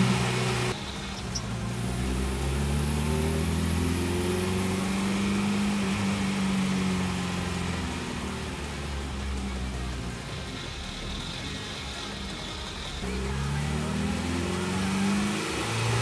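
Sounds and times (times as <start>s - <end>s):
car engine pulling in gear: 0.0s - 16.0s.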